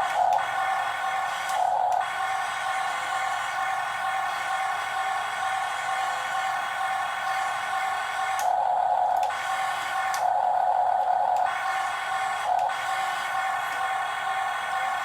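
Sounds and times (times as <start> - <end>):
toy excavator motors whining: 0.0 - 15.0.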